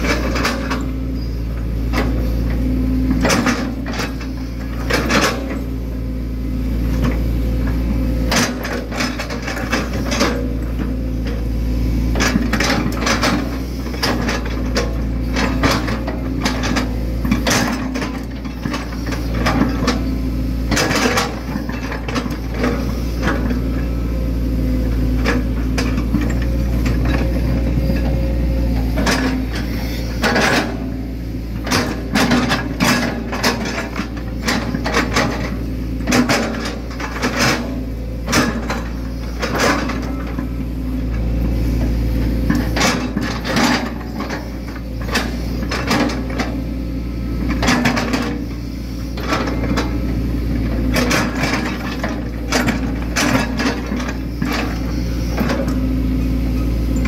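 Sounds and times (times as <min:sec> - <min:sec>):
excavator engine and hydraulic drone: 0:00.0 - 0:57.0.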